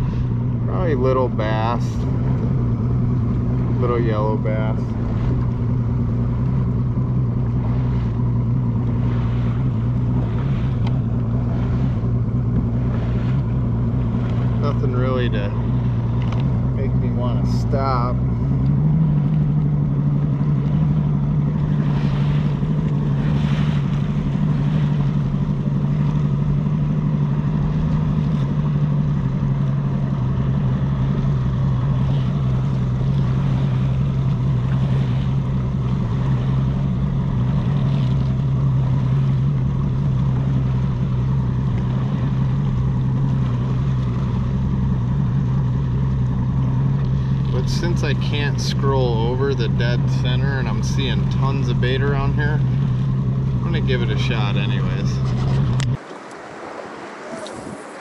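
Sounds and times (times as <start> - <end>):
outboard motor running: 0.0 - 58.0
water rushing along hull: 0.0 - 58.0.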